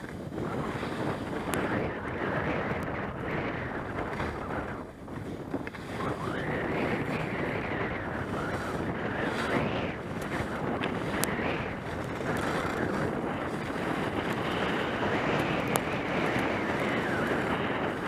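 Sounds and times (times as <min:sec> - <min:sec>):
skis scraping on snow: 0:00.0 - 0:18.0
wind rushing over microphone: 0:00.0 - 0:18.0.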